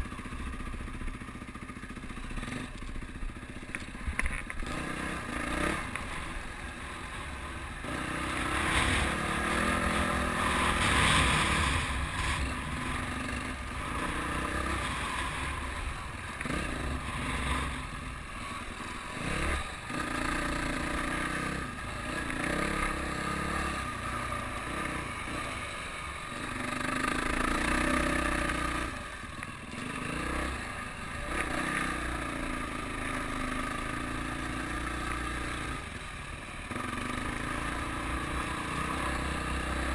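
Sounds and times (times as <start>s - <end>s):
dirt bike engine revving: 4.6s - 36.0s, 36.6s - 39.9s.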